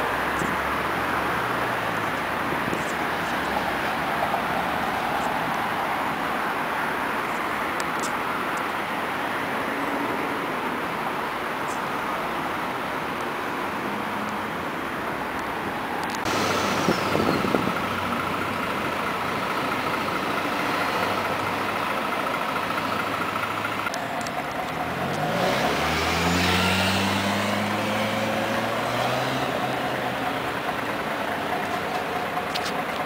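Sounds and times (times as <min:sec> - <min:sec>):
bus engine whine: 0:00.0 - 0:33.0.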